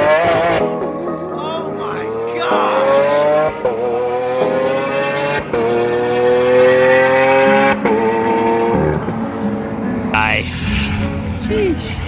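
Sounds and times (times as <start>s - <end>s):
car engine accelerating: 0.0s - 0.6s, 2.0s - 12.0s.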